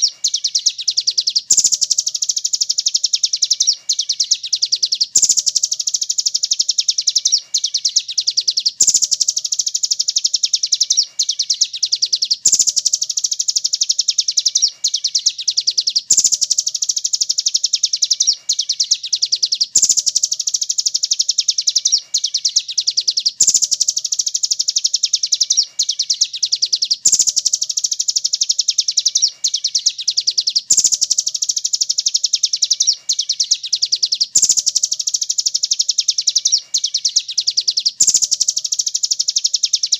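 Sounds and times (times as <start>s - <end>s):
high-pitched bird trill: 0.0s - 39.9s.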